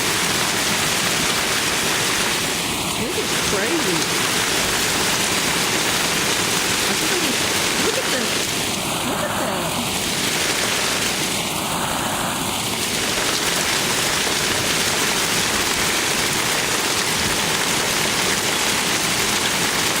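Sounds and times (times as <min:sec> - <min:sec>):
heavy hail falling on ground: 0:00.0 - 0:11.7, 0:12.6 - 0:20.0.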